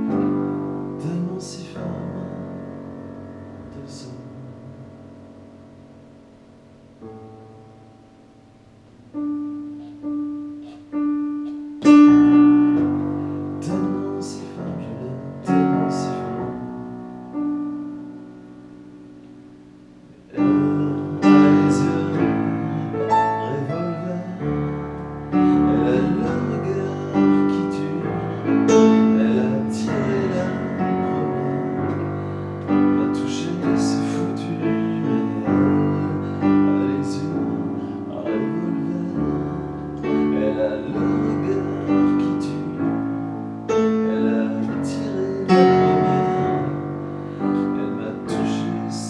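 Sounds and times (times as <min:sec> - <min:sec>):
piano playing sustained chords: 0:00.0 - 0:49.0.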